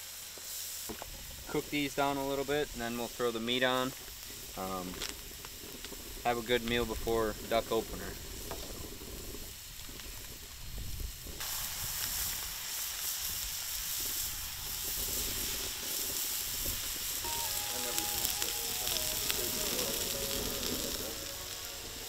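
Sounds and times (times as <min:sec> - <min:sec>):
food sizzling on griddle: 0:00.0 - 0:22.0.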